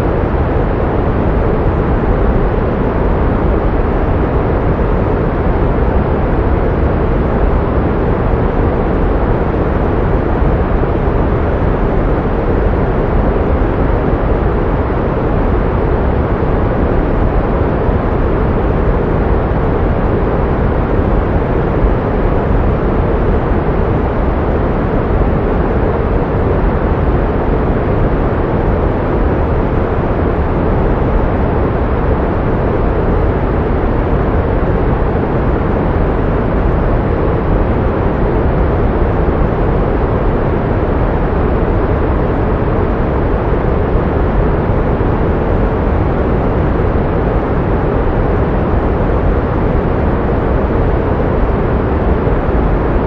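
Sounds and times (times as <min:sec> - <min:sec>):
pink noise rush: 0:00.0 - 0:53.0.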